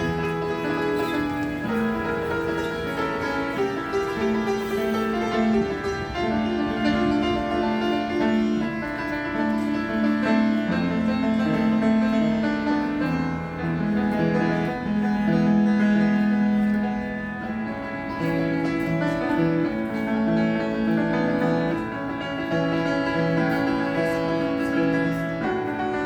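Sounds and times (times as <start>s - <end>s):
piano playing chords: 0.0s - 26.0s.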